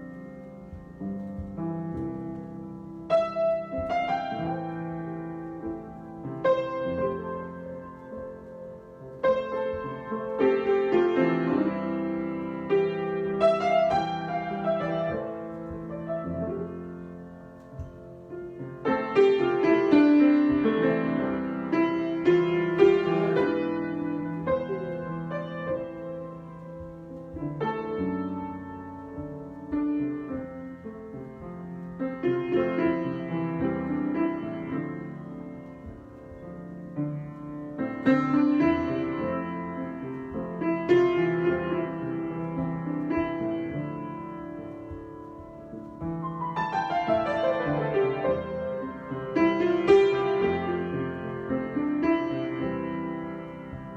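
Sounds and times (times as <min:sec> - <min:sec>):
solo piano improvisation: 0:00.0 - 0:53.9.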